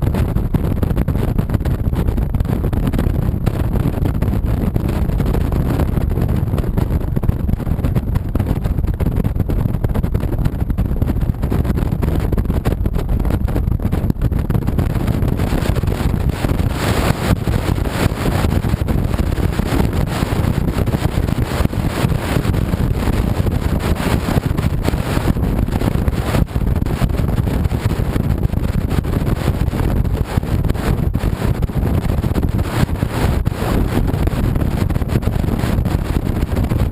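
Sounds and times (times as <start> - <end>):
wind buffeting on microphone: 0.0 - 36.9.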